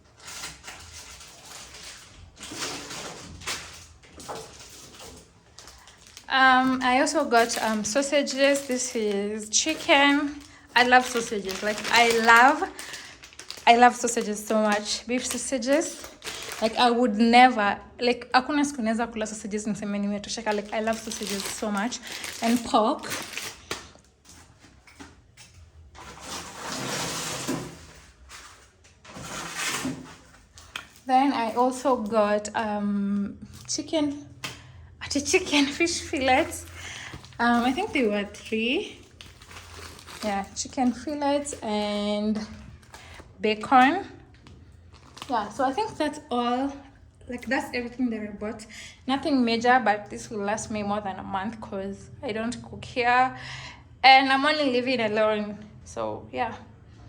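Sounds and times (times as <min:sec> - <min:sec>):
grocery packaging rustling: 0:00.0 - 0:17.3, 0:19.3 - 0:47.9.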